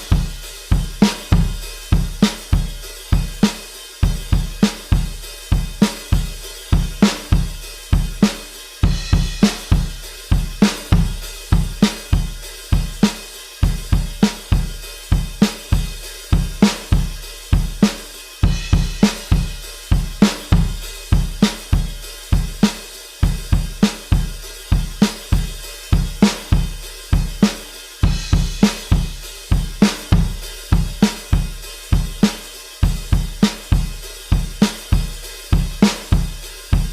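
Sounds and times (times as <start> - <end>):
rock drum beat: 0.0 - 36.9.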